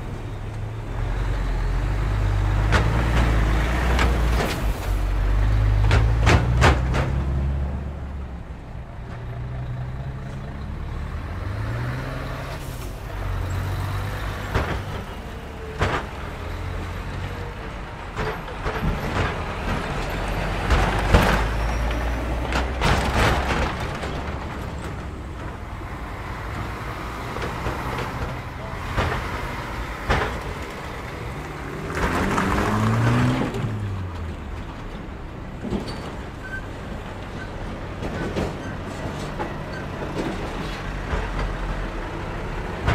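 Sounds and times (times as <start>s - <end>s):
diesel trucks driving past: 0.0s - 42.9s
wheels banging over rails: 1.9s - 9.6s, 12.9s - 42.9s.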